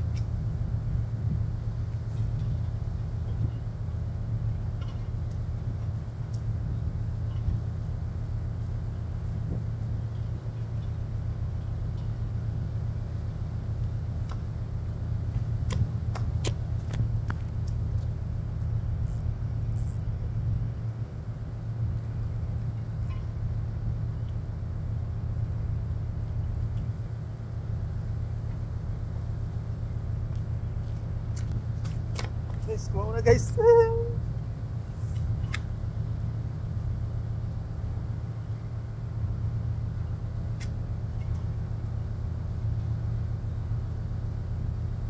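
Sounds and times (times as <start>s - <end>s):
refrigeration unit humming: 0.0s - 45.0s.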